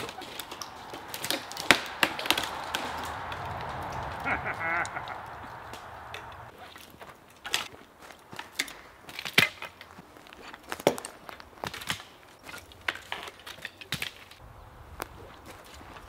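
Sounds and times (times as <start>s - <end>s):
footsteps crunching on twigs: 0.0s - 13.6s.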